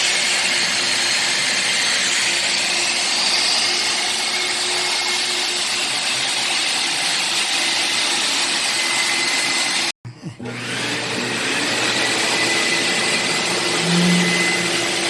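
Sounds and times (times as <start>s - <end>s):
floor cleaner suction motor whirr: 0.0s - 15.0s.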